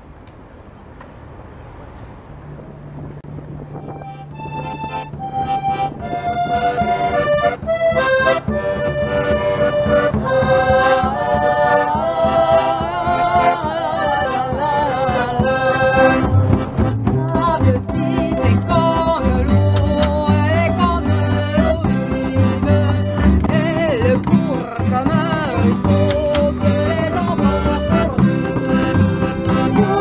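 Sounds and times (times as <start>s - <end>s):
button accordion folk melody: 3.7s - 30.0s.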